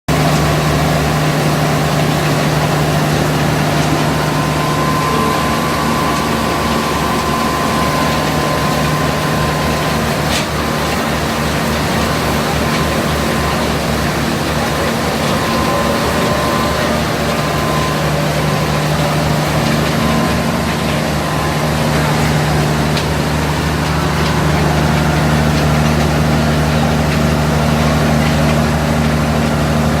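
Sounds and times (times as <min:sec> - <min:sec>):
machinery humming and droning: 0:00.1 - 0:30.0
steady machinery rushing noise: 0:00.1 - 0:30.0.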